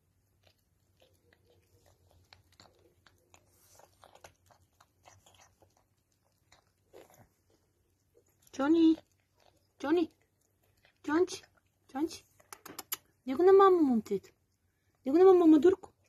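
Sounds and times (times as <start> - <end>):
kitten chewing food: 0.0 - 13.2.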